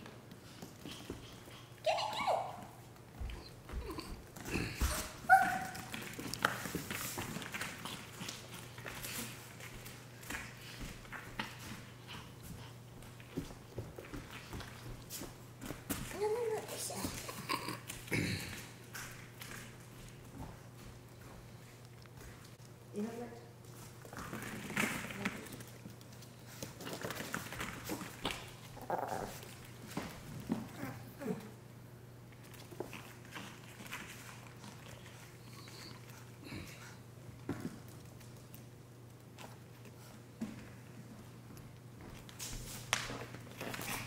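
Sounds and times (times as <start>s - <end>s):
dog paws skittering on floor: 0.0s - 31.6s, 32.3s - 44.0s.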